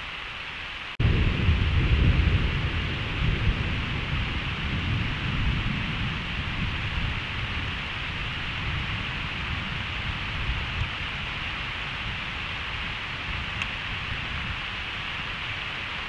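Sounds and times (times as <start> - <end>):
steady rain falling: 0.0 - 16.0
low rumble of thunder: 1.0 - 16.0.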